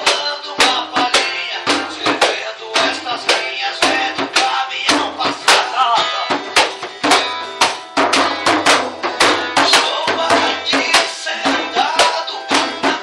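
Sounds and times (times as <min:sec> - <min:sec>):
guitar playing: 0:00.0 - 0:13.0
steady percussive beat: 0:00.0 - 0:13.0.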